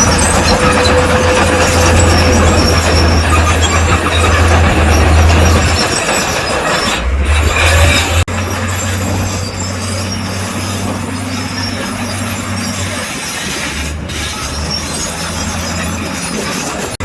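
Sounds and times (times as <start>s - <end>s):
bulldozer diesel engine running: 0.0s - 17.0s
steel tracks clattering: 0.0s - 17.0s.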